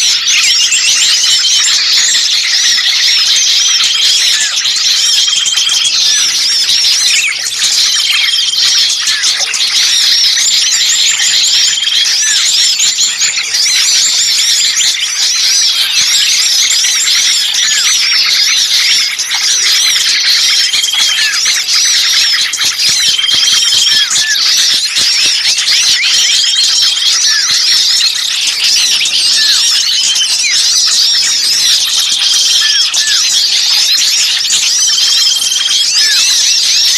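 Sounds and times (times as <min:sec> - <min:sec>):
songbirds chirping and trilling: 0:00.0 - 0:36.9.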